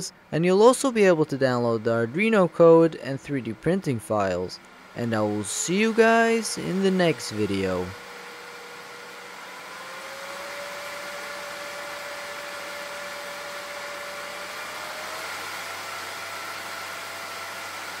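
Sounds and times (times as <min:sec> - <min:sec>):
cooling fan whine and airflow: 0:00.0 - 0:18.0.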